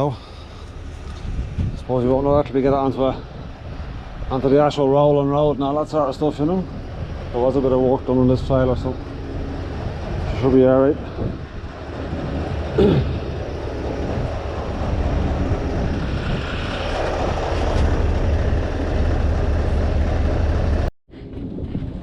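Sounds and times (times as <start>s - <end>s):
diesel truck engine running: 0.0s - 20.9s.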